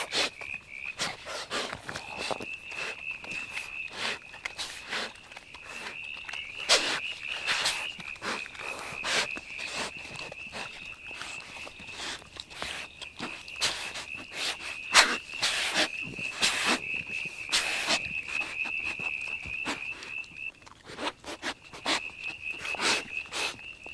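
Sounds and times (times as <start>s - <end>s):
animal crunching and tearing: 0.0s - 23.9s.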